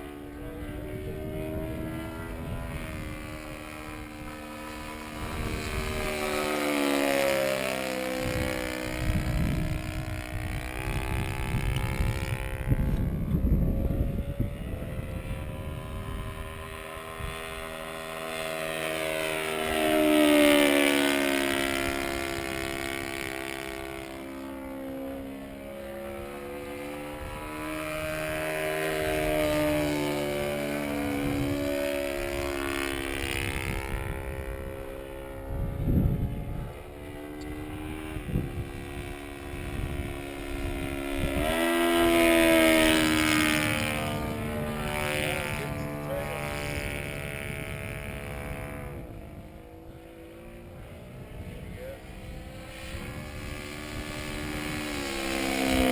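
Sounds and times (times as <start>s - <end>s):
model plane engine buzzing: 0.0s - 55.9s.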